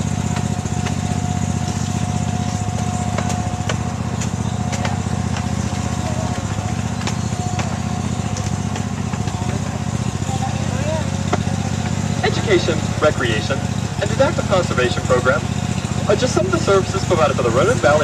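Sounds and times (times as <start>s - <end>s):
small train engine running: 0.0s - 18.0s.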